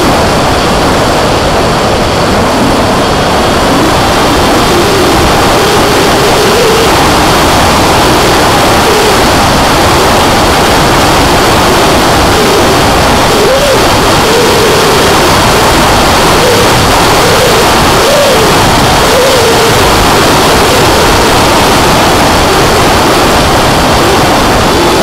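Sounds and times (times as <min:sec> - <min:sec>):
electric motor and propeller droning: 0:00.0 - 0:25.0
wind rush on microphone: 0:00.0 - 0:25.0.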